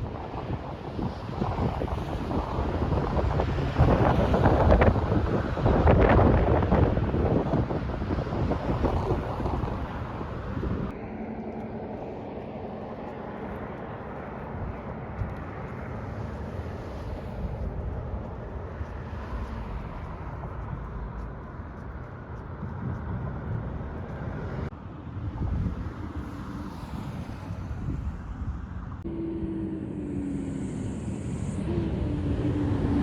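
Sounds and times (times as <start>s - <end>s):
moving vehicle rumbling: 0.0s - 33.0s.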